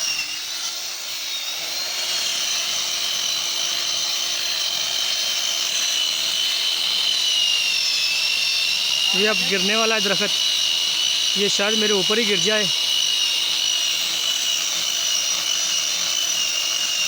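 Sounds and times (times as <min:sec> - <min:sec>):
chainsaw cutting tree trunk: 0:00.0 - 0:17.0.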